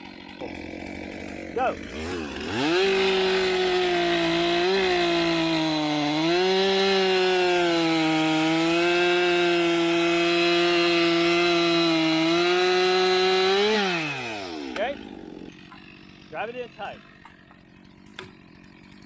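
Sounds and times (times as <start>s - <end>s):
chainsaw cutting through trunk: 0.0s - 19.0s.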